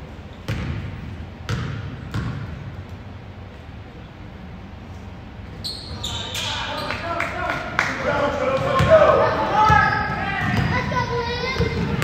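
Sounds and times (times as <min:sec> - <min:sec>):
gym noise hum: 0:00.0 - 0:12.0.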